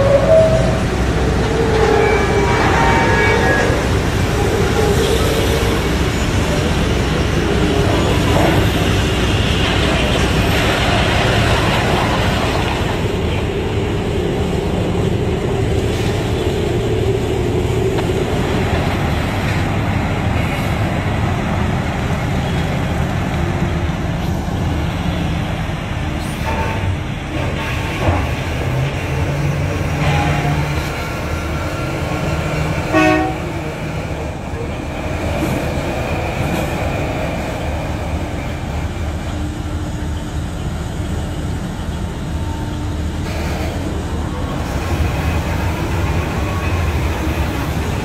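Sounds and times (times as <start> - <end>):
heavy mining machinery rumble: 0.0 - 48.0.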